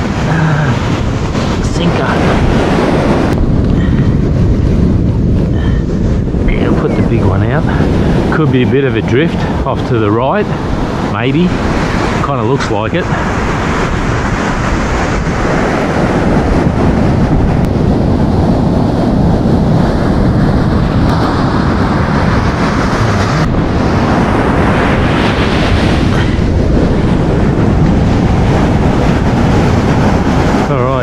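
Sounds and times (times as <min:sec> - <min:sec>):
ocean surf breaking: 0:00.0 - 0:31.0
wind noise on microphone: 0:00.0 - 0:31.0.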